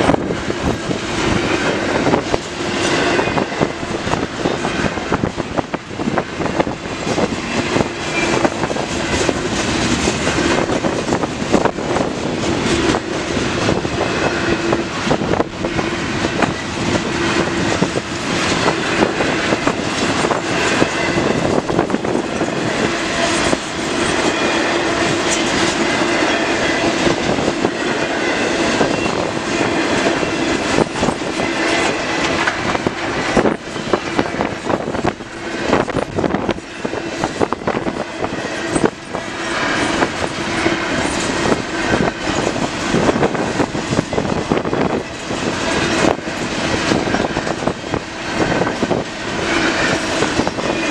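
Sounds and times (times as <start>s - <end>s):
train wheels clacking on rail joints: 0.0s - 50.9s.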